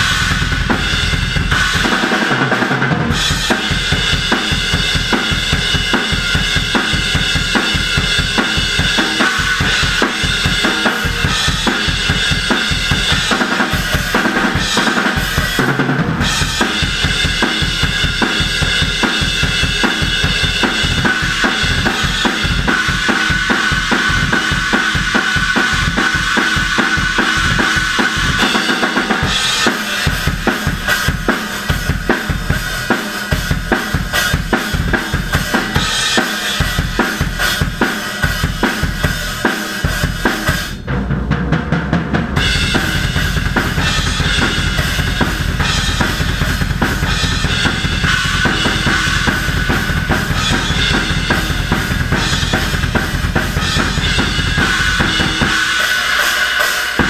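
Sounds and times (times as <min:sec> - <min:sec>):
death metal drumming: 0:00.0 - 0:57.0
fast double bass drum: 0:00.0 - 0:57.0.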